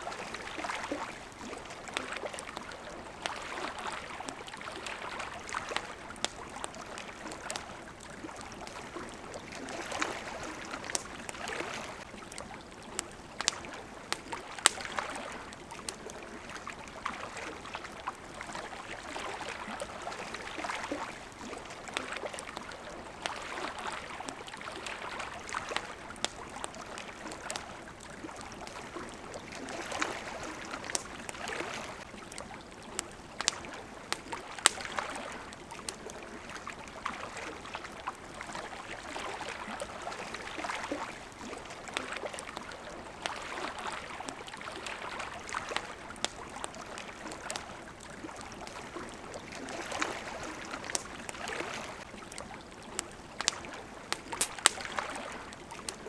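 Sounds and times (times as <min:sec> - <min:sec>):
campfire crackling: 0:00.0 - 0:56.0
water lapping at shore: 0:00.0 - 0:56.0.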